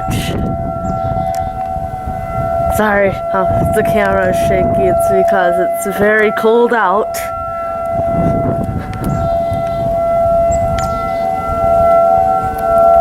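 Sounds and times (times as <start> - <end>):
two-tone warning siren: 0.0 - 13.0.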